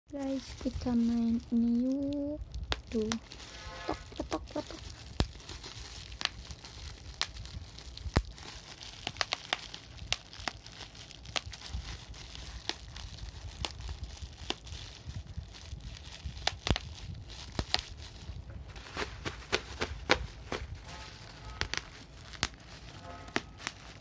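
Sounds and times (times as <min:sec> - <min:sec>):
bubble wrap popping: 0:00.1 - 0:24.0.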